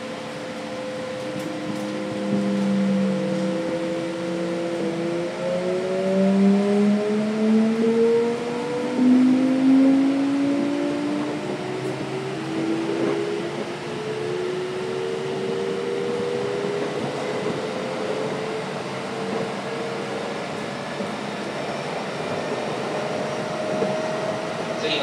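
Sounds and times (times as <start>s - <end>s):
rail running noise: 0.0s - 25.0s.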